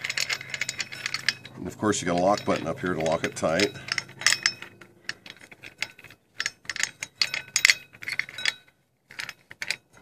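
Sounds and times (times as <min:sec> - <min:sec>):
metal clicking and clinking: 0:00.0 - 0:10.0.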